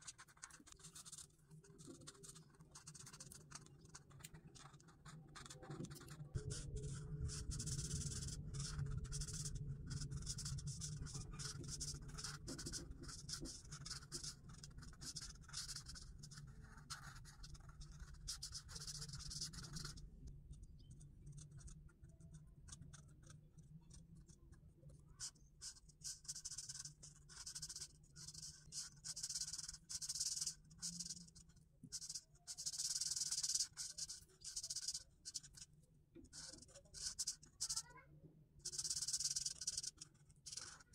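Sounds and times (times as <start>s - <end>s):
marker scratching on paper: 0.0s - 20.0s, 21.3s - 23.3s, 25.2s - 35.7s, 36.3s - 37.9s, 38.6s - 40.9s.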